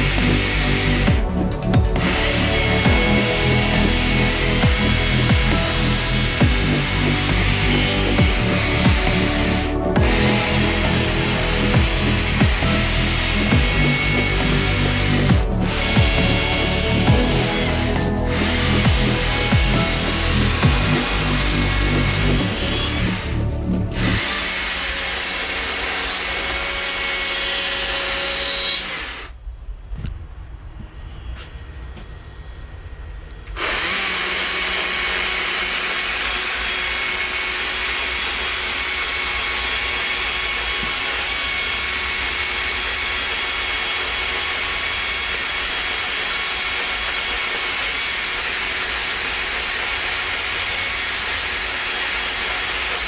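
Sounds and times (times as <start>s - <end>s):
power tool working wood: 0.0s - 29.3s, 33.6s - 53.0s.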